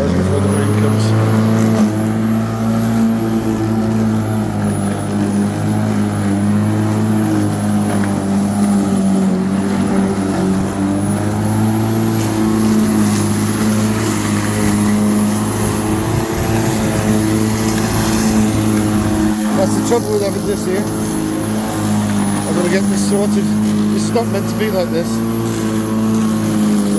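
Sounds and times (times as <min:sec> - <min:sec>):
electric lawnmower running: 0:00.0 - 0:26.9.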